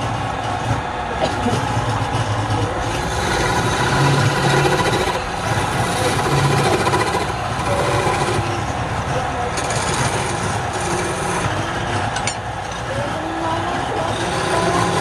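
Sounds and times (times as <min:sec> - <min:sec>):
wood lathe running: 0:00.0 - 0:15.0.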